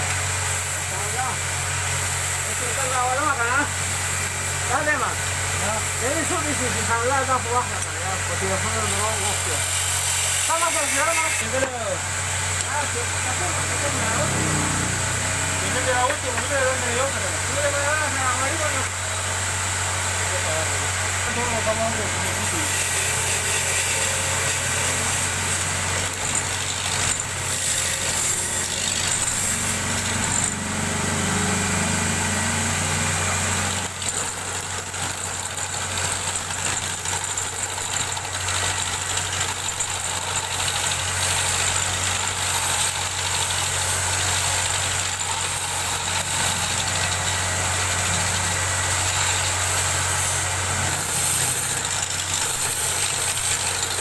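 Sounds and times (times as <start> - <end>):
hiss of wood cutting: 0.0 - 34.2, 40.4 - 54.0
lathe motor hum: 0.0 - 54.0.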